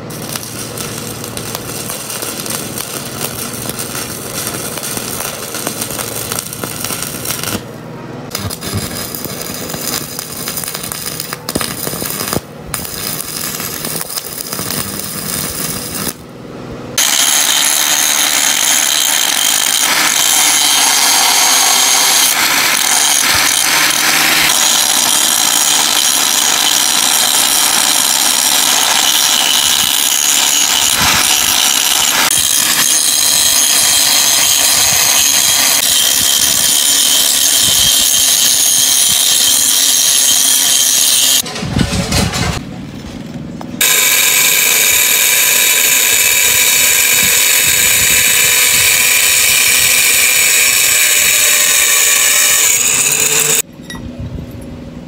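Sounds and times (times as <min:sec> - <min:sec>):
angle grinder grinding steel: 0:00.0 - 0:16.3, 0:17.0 - 0:41.5, 0:43.8 - 0:53.7
welding arc crackling: 0:00.0 - 0:16.3, 0:17.0 - 0:41.4, 0:43.8 - 0:53.7.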